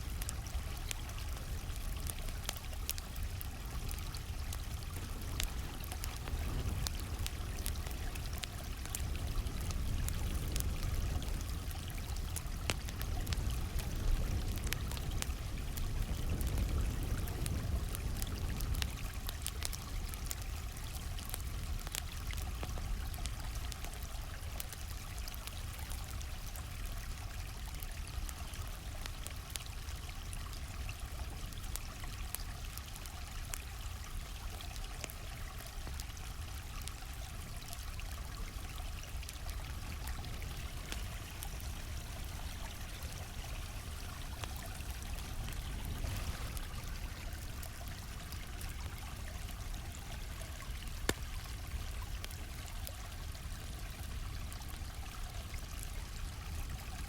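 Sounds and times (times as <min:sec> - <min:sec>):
campfire crackling and popping: 0:00.0 - 0:57.0
stream flowing: 0:00.0 - 0:57.0.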